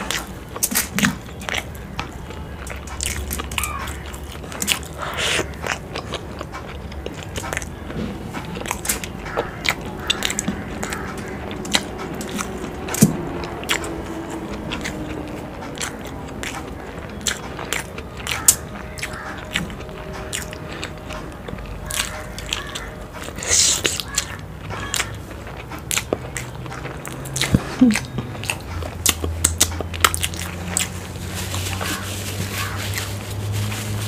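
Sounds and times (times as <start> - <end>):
chewing with wet mouth clicks: 0.0 - 32.0.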